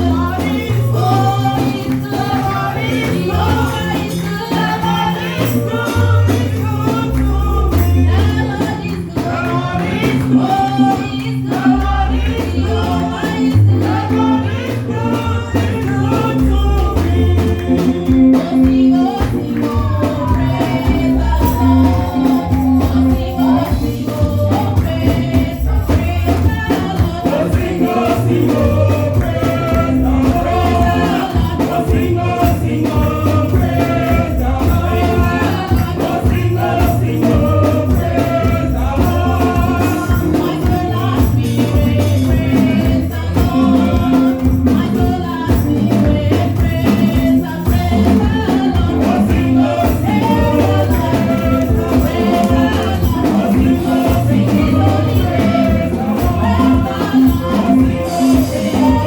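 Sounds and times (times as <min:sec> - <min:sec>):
bass line: 0:00.0 - 0:59.0
steady percussion: 0:00.0 - 0:59.0
tambourine jingle: 0:00.0 - 0:59.0
voices singing gospel: 0:00.0 - 0:59.0.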